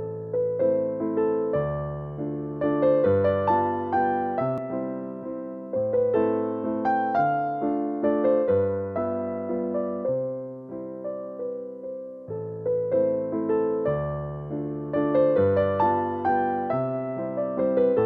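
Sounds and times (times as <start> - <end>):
electric piano slow melody: 0.0 - 18.0.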